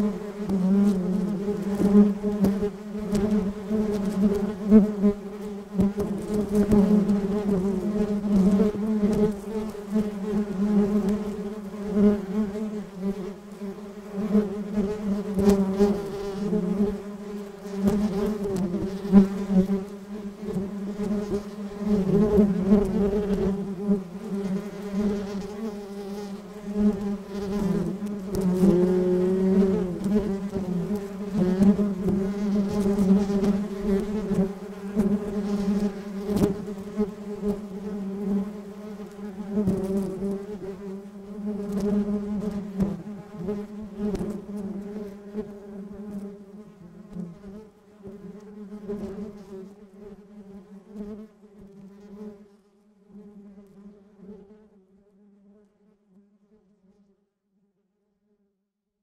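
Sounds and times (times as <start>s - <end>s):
bees buzzing: 0.0s - 49.5s.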